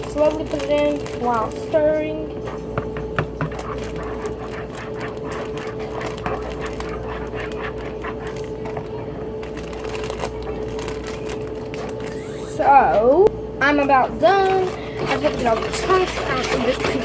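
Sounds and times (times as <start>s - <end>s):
utensil scraping mixing bowl: 0.0s - 13.0s, 13.8s - 17.0s
steady hum: 0.0s - 17.0s.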